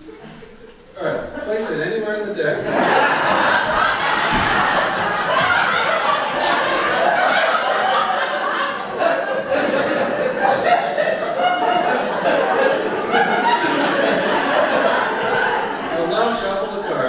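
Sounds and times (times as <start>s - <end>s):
audience laughing: 2.6s - 17.0s.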